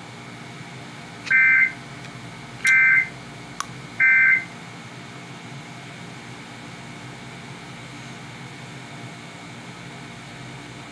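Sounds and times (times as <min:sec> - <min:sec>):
faint steady hum: 0:00.6 - 0:10.9.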